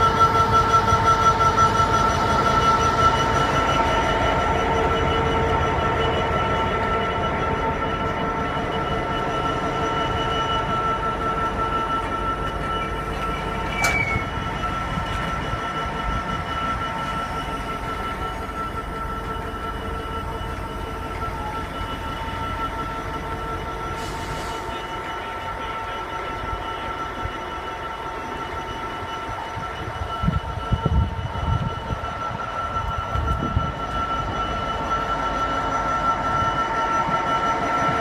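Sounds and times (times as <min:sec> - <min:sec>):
diesel locomotive engine whine: 0:00.0 - 0:38.0.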